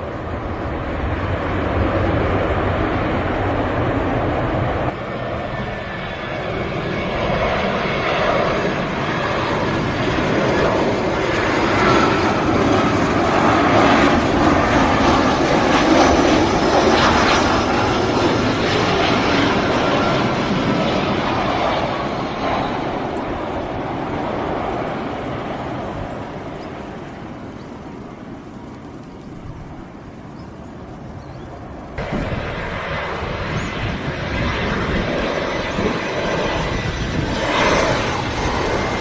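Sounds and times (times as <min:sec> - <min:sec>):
airplane engines passing by: 0:00.0 - 0:39.0.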